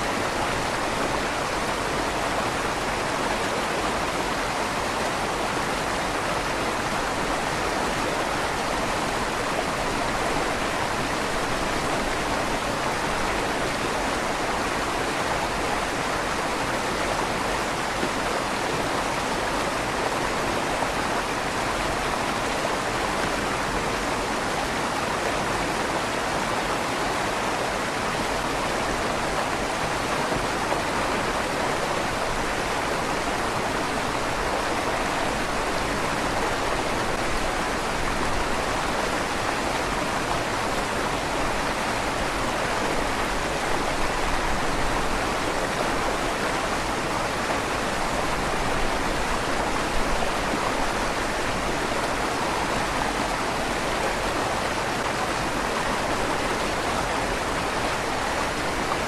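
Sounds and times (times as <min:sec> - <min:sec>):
river water rushing through tunnel: 0:00.0 - 0:59.0.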